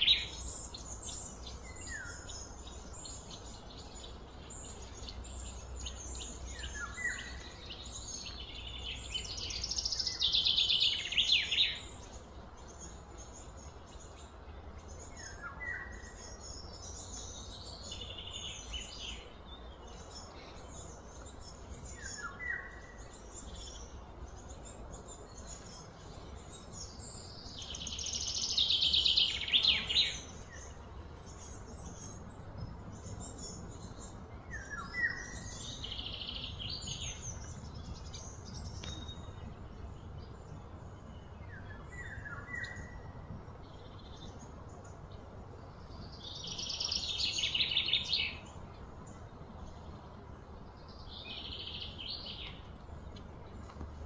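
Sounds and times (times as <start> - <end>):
low background noise: 0.0 - 54.0.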